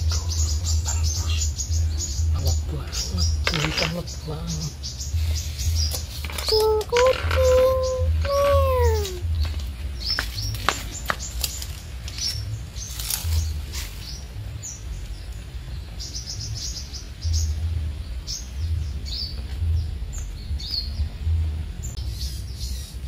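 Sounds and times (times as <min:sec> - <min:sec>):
low uneven rumble: 0:00.0 - 0:23.0
small birds chirping: 0:00.0 - 0:23.0.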